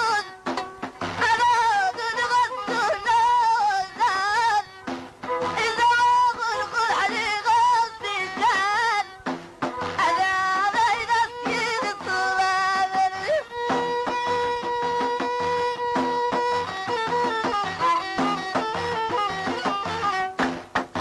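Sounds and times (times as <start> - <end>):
ornamented singing with instruments: 0.0 - 21.0
plucked string instrument: 0.0 - 21.0.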